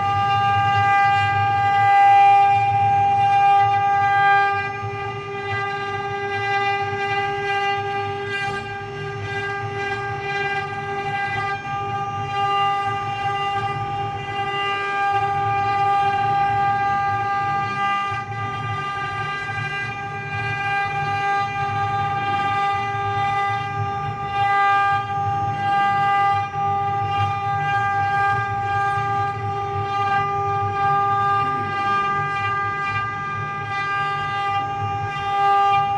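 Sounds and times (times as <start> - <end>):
cnc machine whining: 0.0 - 35.9.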